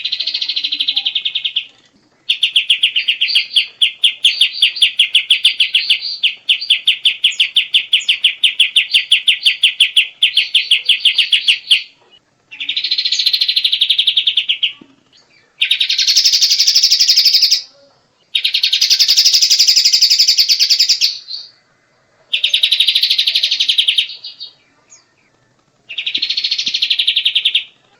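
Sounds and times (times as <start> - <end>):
songbird singing trills: 0.0 - 27.9.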